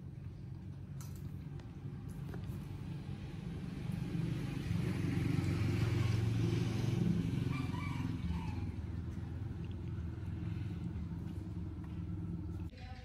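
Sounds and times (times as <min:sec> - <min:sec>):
vehicle engine passing by: 0:01.4 - 0:12.7.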